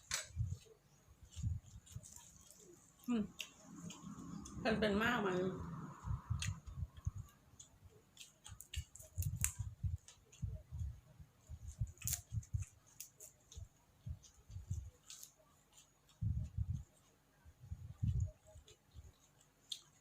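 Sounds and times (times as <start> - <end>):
person chewing food: 0.0 - 4.6, 5.7 - 17.3, 17.9 - 20.0.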